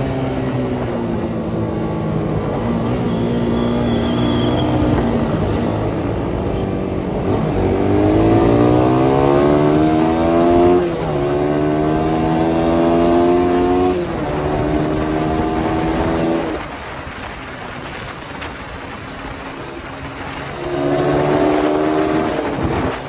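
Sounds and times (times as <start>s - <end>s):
motorcycle engine shifting gears: 0.0s - 23.0s.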